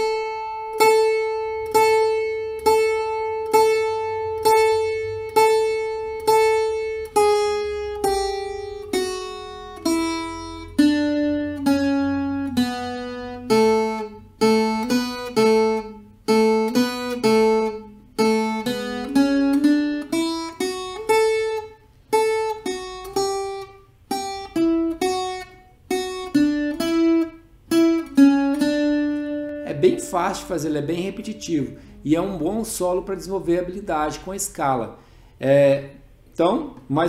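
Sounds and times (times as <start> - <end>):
plucked folk guitar solo: 0.0 - 34.5.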